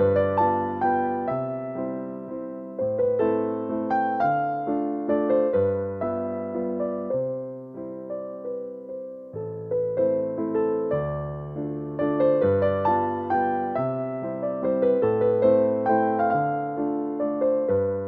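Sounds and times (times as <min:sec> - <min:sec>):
gentle piano piece: 0:00.0 - 0:18.0.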